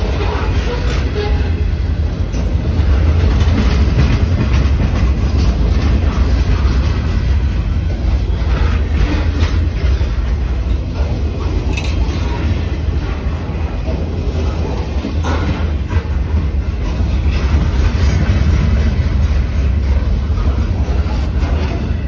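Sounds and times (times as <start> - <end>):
train wheels rumbling on rails: 0.0 - 22.0
wheels clacking on rail joints: 0.0 - 22.0.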